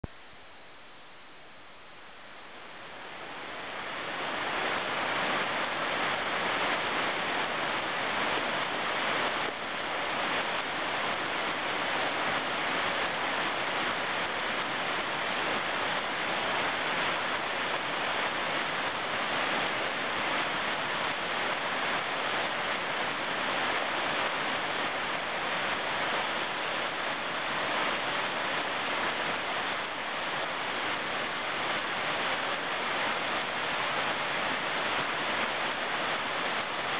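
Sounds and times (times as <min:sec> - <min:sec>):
water rushing over rocks: 0:02.3 - 0:36.9.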